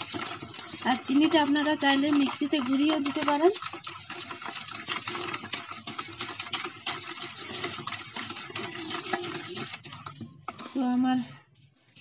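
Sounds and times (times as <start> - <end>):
spoon clinking and scraping bowl: 0.0 - 10.9.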